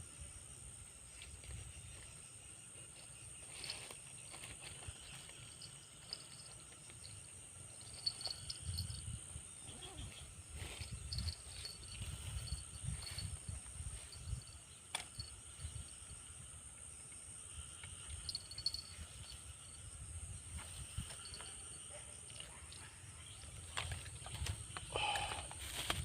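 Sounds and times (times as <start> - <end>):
insects droning and chirping: 0.0 - 26.0.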